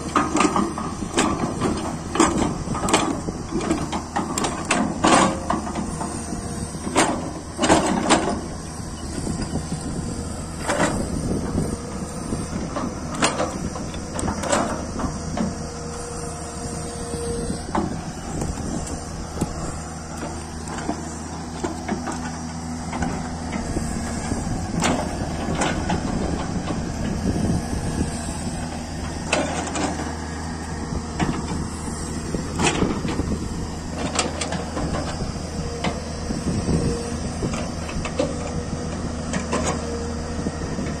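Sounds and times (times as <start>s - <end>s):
excavator diesel engine: 0.0s - 41.0s
hydraulic whine: 0.0s - 41.0s.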